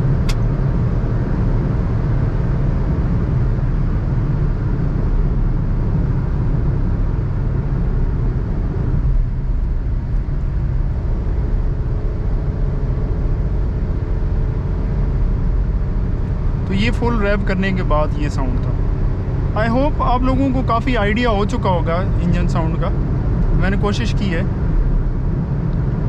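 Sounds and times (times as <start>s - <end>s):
car engine at highway speed: 0.0s - 26.0s.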